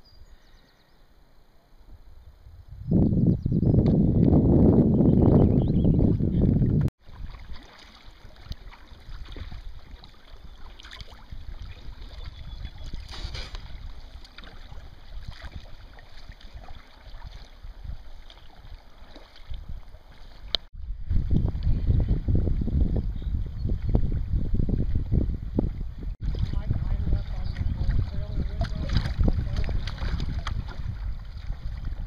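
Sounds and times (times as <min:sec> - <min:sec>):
wind rumble on microphone: 0:01.9 - 0:32.0
water splashing around kayak: 0:06.1 - 0:32.0.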